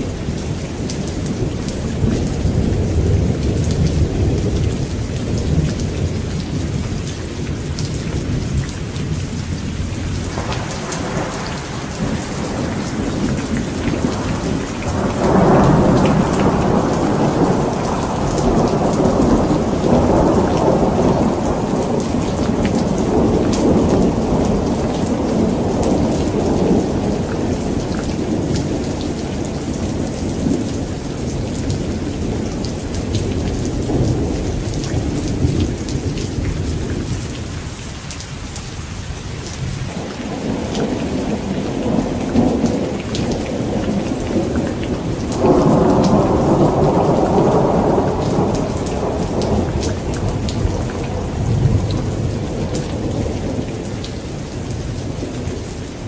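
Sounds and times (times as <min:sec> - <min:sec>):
steady rain: 0:00.0 - 0:56.0
rolling thunder: 0:01.0 - 0:37.5, 0:39.5 - 0:55.8.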